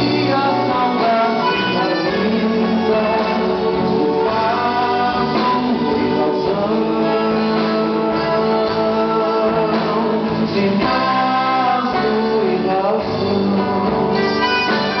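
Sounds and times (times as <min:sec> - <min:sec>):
accordion: 0:00.0 - 0:15.0
acoustic guitars: 0:00.0 - 0:15.0
drums: 0:00.0 - 0:15.0
electric guitar: 0:00.0 - 0:15.0
man singing: 0:00.0 - 0:15.0.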